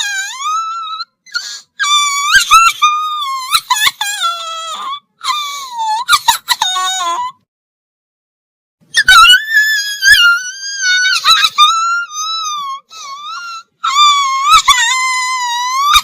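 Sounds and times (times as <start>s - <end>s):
cartoon crying wail: 0.0s - 7.4s, 8.9s - 16.0s.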